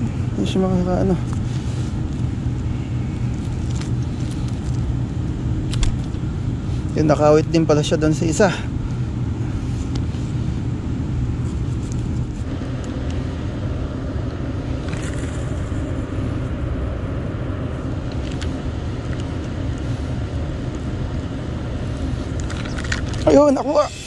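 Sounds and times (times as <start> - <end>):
distant road traffic: 0.0 - 24.0.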